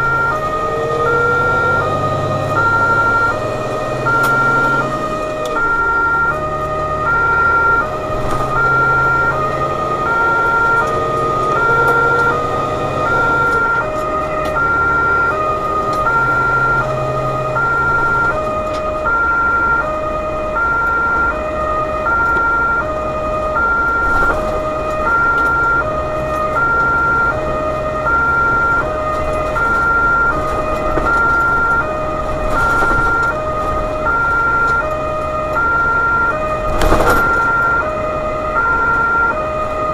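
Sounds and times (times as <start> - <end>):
truck engine and road noise: 0.0 - 39.9
two-tone emergency siren: 0.0 - 39.9.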